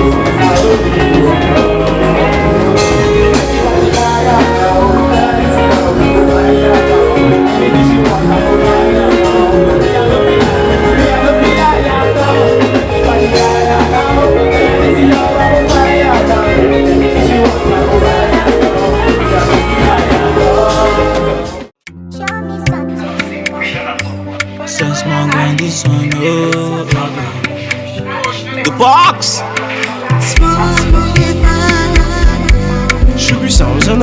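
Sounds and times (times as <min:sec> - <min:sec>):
loud music with steady beat: 0:00.0 - 0:34.0.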